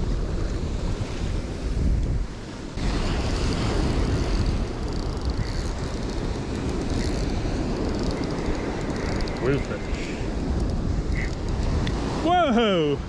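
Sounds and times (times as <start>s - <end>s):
breaking surf: 0.0s - 13.0s
wind buffeting microphone: 0.0s - 13.0s.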